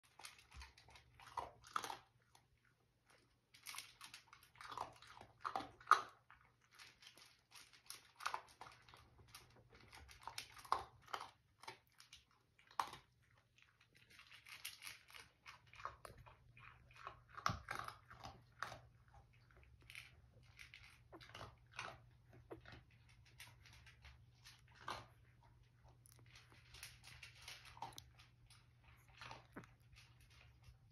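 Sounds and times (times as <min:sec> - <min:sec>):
puppies smacking and snuffling: 0:00.0 - 0:30.9
faint low hum: 0:04.8 - 0:30.9.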